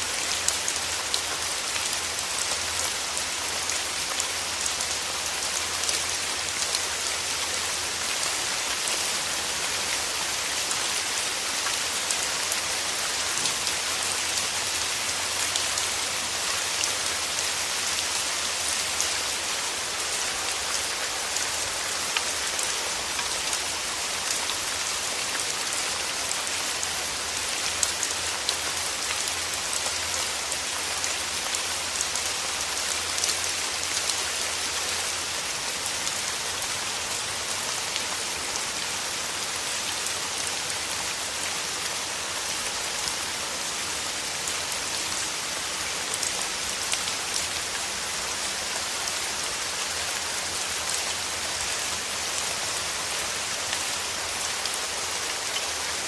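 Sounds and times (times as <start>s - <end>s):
rain falling on petals: 0.0s - 56.0s.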